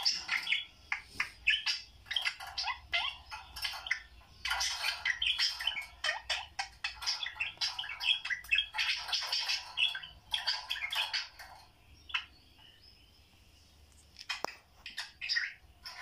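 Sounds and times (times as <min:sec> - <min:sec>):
budgerigars chattering: 0:00.0 - 0:12.8, 0:14.2 - 0:16.0.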